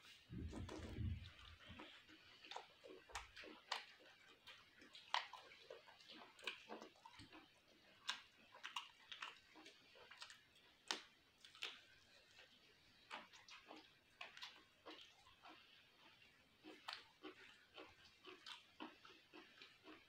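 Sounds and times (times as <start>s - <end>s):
person chewing with lip smacks: 0.1s - 20.0s.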